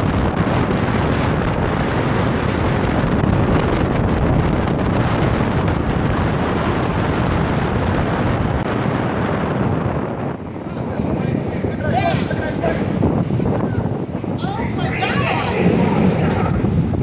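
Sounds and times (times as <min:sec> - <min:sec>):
strong wind rushing: 0:00.0 - 0:17.0
wind buffeting microphone: 0:00.0 - 0:17.0.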